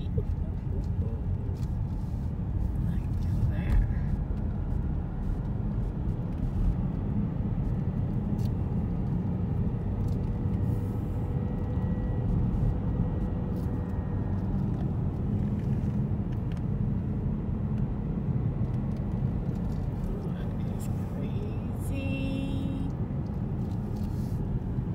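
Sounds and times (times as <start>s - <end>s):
car cabin rumble: 0.0s - 24.9s.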